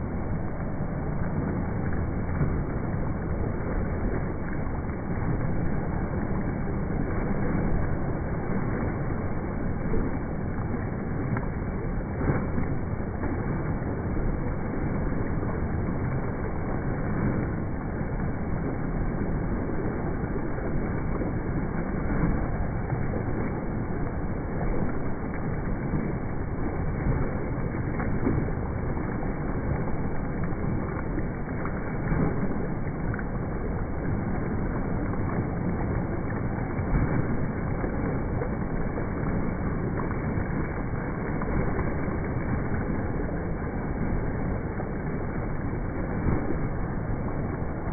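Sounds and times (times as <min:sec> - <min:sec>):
water splashing from kicking: 0:00.0 - 0:47.9.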